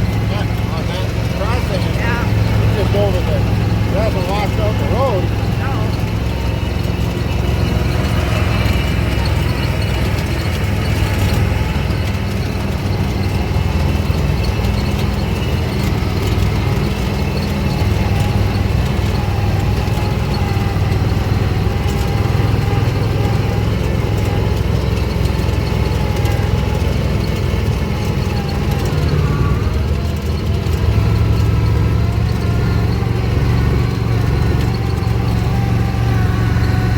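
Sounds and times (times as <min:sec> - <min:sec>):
all-terrain vehicle engine running: 0:00.0 - 0:36.9.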